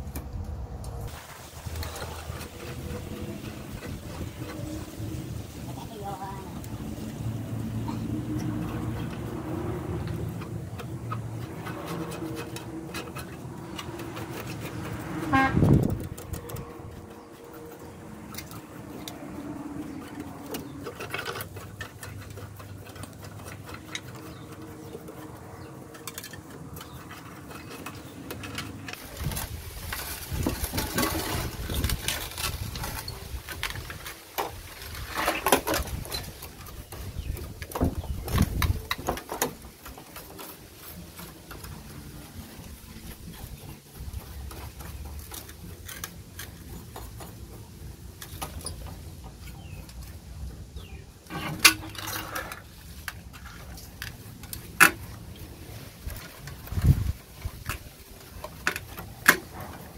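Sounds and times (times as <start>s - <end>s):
brush scraping rusty metal: 1.0s - 59.9s.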